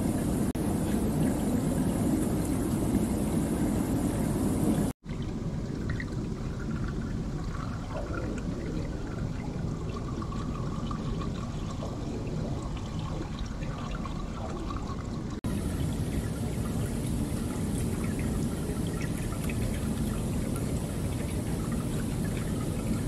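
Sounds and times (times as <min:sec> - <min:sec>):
pool water trickling and lapping: 0:00.0 - 0:23.0
small splashes and bubbles: 0:00.0 - 0:23.0.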